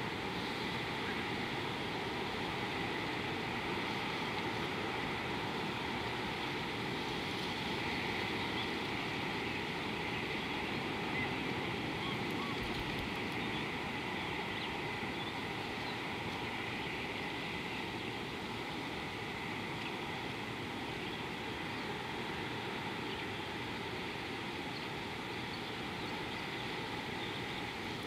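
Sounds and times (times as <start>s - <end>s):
even outdoor hiss: 0.0s - 28.0s.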